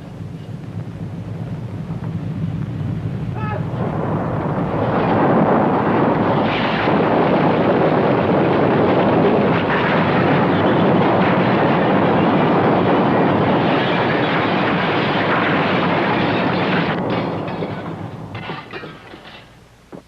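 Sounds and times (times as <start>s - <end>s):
loud rushing rumble: 0.0s - 18.9s.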